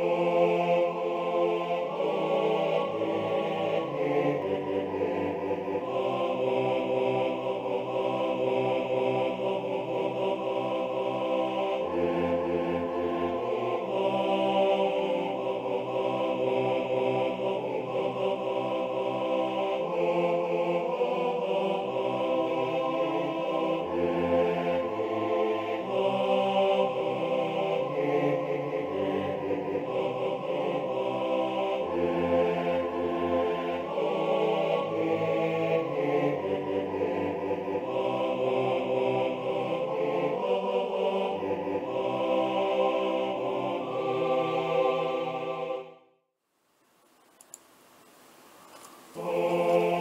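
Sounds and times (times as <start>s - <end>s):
synthesized voices harmonizing: 0.0s - 46.0s, 49.0s - 50.0s.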